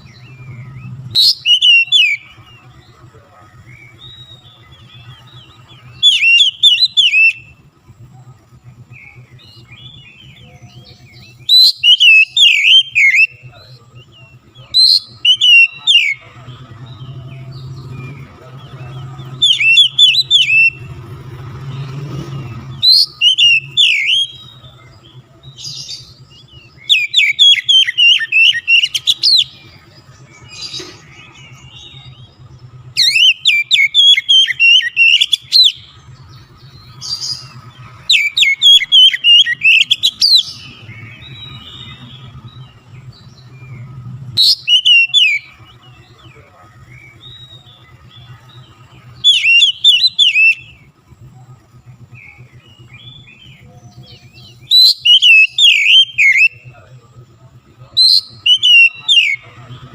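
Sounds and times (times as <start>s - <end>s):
bird singing whistled phrases: 0.0s - 2.9s, 3.6s - 7.6s, 8.9s - 21.0s, 21.7s - 50.9s, 52.1s - 56.8s, 57.8s - 59.9s.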